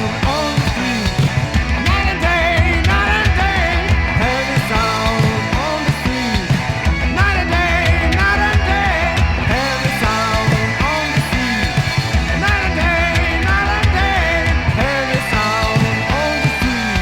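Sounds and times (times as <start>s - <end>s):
heavy metal song: 0.0s - 17.0s
vibrato lead guitar line: 0.0s - 17.0s.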